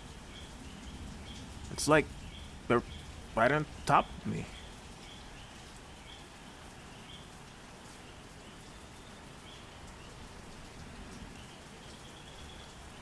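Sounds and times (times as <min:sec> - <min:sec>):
light drizzle hissing: 0:00.0 - 0:13.0.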